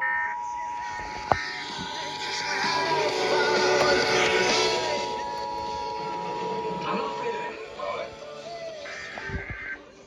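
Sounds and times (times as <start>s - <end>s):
two-note alert tone: 0.4s - 9.2s
music and singing: 1.1s - 10.0s.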